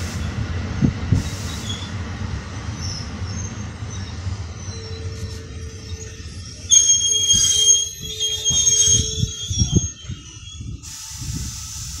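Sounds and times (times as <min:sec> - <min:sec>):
train wheels rumbling and clattering: 0:00.0 - 0:12.0
high-pitched brake squeal: 0:01.5 - 0:02.0, 0:02.8 - 0:12.0.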